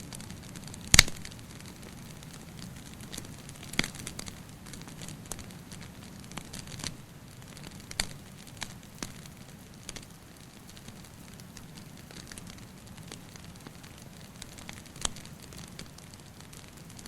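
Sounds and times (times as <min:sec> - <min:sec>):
steady low hiss: 0:00.0 - 0:17.0
wood fire crackling: 0:00.0 - 0:17.0.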